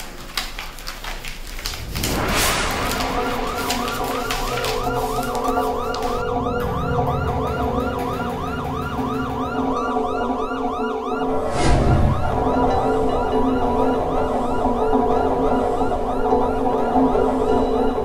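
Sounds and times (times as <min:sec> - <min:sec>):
siren warbling: 0:02.4 - 0:18.0.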